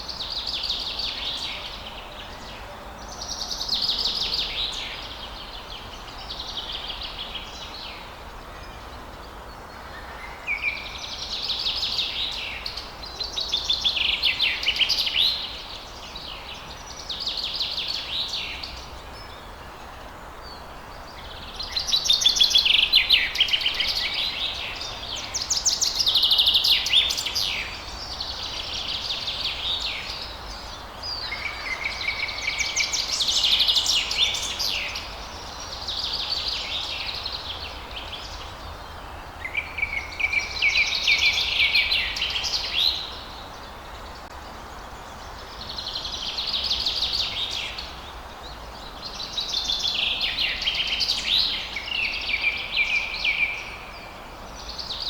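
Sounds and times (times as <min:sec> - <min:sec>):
faint outdoor hiss: 0:00.0 - 0:55.0
songbirds trilling and chirping: 0:00.0 - 0:55.0.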